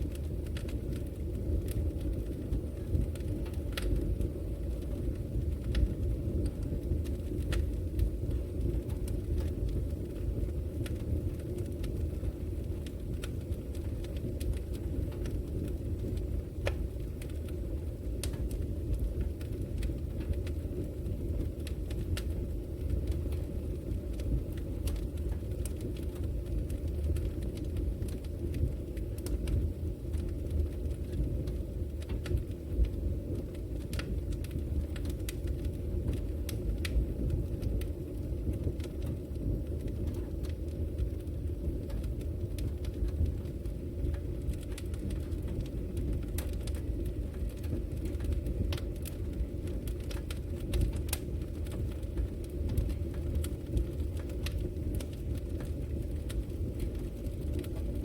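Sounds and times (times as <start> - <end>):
fire crackling in a fireplace: 0.0 - 58.0.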